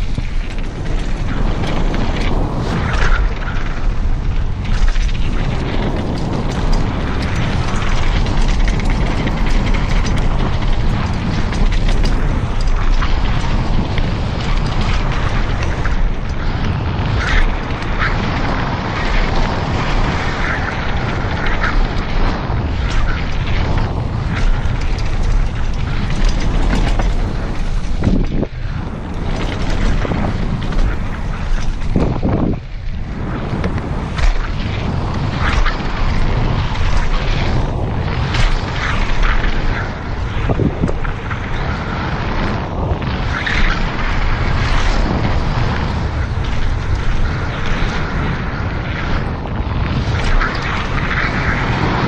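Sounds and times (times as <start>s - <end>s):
bike clicks and rattles: 0.0s - 52.0s
bike tyres on gravel trail: 0.0s - 52.0s
wind buffeting microphone: 0.0s - 52.0s.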